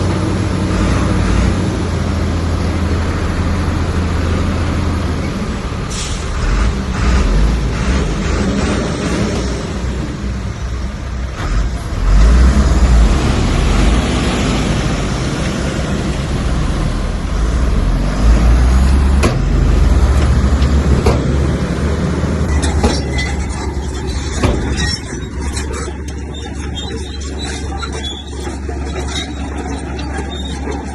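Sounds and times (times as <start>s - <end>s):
bulldozer diesel engine rumbling: 0.0s - 30.9s.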